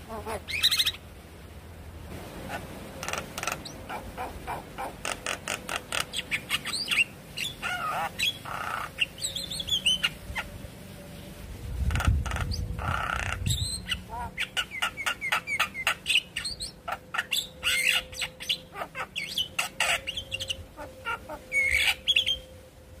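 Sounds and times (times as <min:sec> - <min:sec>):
myna bird singing: 0:00.0 - 0:01.0, 0:02.4 - 0:22.6.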